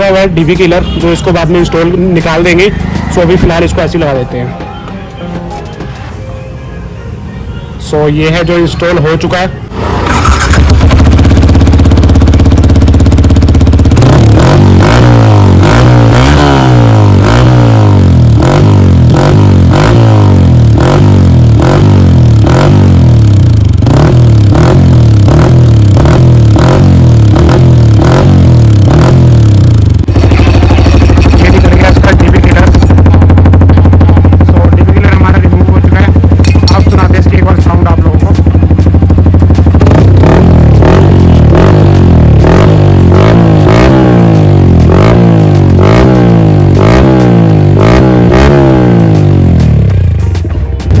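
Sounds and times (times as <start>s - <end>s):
loud motorcycle engine revving: 0.0s - 4.2s, 9.6s - 50.3s.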